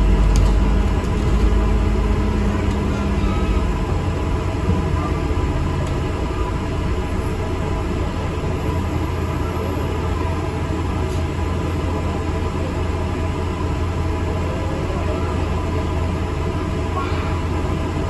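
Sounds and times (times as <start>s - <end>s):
bus engine hum: 0.0s - 18.0s
road and body rumble: 0.0s - 18.0s.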